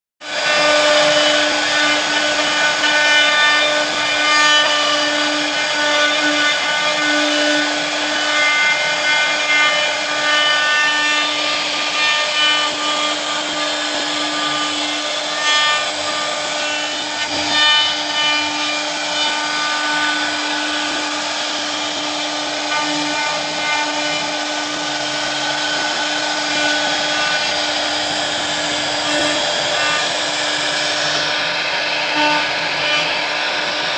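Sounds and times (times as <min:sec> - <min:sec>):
router bit rasping through wood: 0:00.2 - 0:33.9
router spindle whine: 0:00.2 - 0:33.9.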